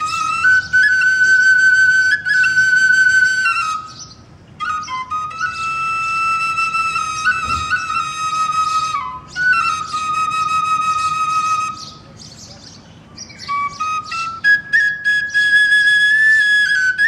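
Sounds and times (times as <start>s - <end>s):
wooden flute playing: 0.0s - 12.2s, 13.3s - 17.0s.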